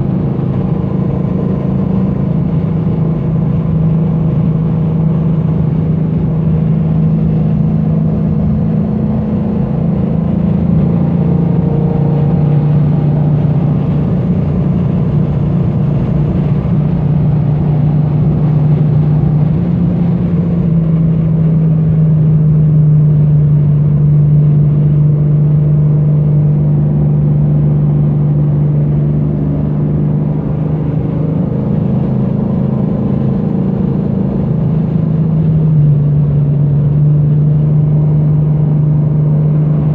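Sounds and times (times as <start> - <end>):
car engine running under load: 0.0 - 39.9.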